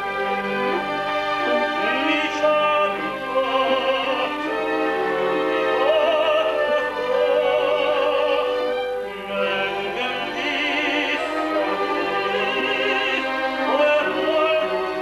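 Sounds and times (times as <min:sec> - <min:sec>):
orchestra with strings: 0:00.0 - 0:15.0
operatic soprano singing: 0:00.5 - 0:15.0.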